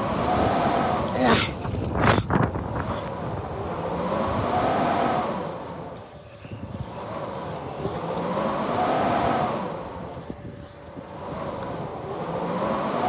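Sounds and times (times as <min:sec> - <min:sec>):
blizzard wind howling: 0:00.0 - 0:13.0.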